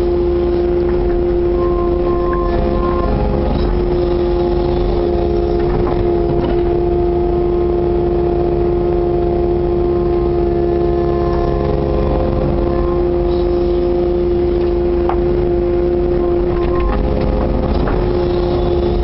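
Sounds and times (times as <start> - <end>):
excavator engine and hydraulics hum: 0.0 - 19.0.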